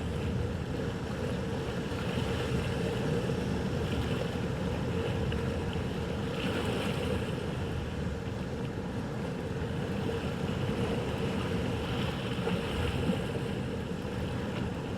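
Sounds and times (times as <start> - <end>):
waves: 0.0 - 14.9.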